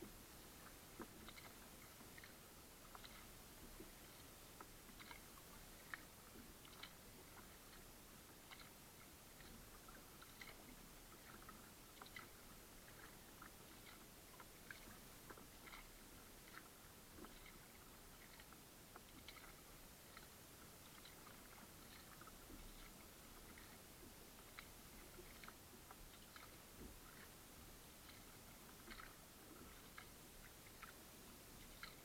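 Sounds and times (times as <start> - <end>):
faint small clicks and ticks: 0.0 - 32.0.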